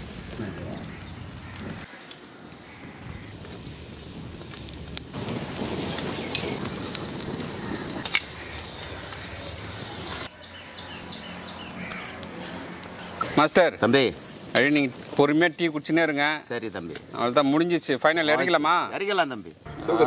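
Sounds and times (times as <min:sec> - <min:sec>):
wood fire crackling and popping: 0:00.0 - 0:10.3, 0:11.8 - 0:19.7.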